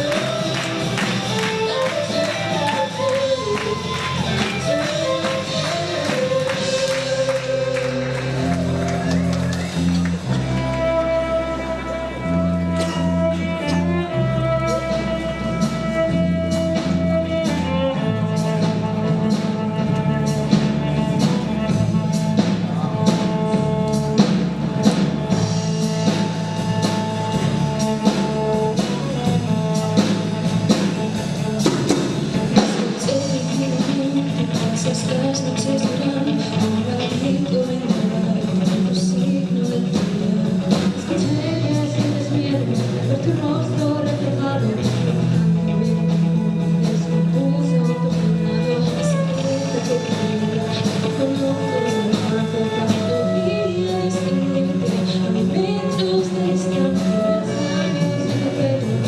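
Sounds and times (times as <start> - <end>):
person singing: 0.0 - 24.0, 32.3 - 59.0
live rock band: 0.0 - 59.0.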